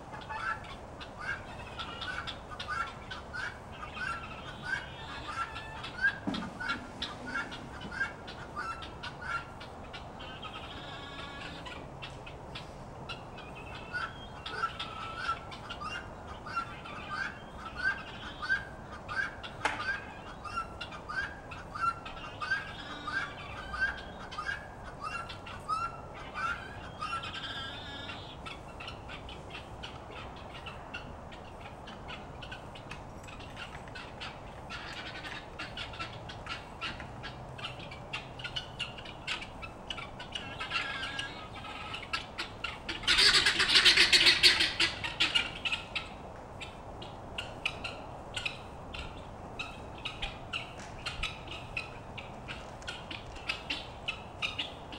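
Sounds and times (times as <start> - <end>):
poultry calling: 0.0 - 54.9.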